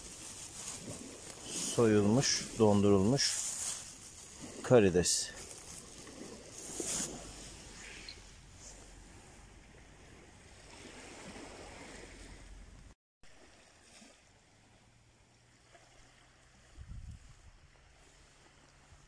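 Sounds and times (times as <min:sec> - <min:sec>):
faint surf on a beach: 0:00.0 - 0:19.0.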